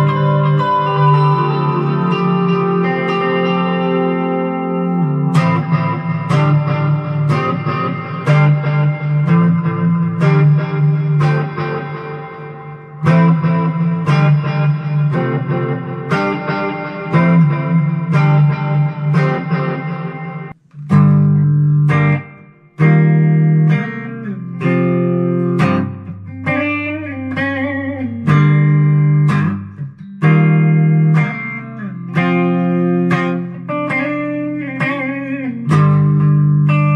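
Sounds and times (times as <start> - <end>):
electric guitar chords and notes: 0.0 - 36.9.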